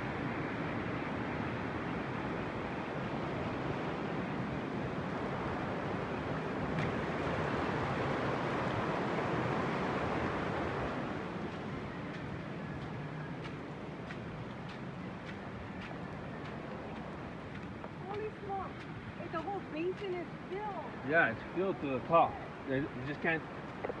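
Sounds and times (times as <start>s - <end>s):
rushing floodwater: 0.0s - 24.0s.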